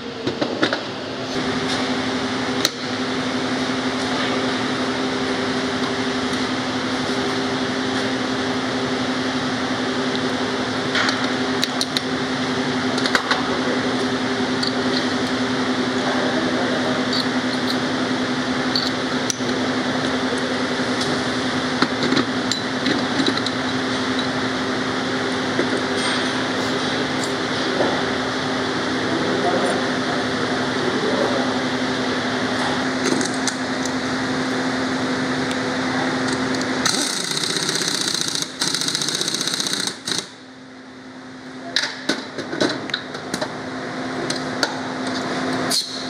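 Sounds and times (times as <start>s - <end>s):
steady machine hum: 0.0s - 46.0s.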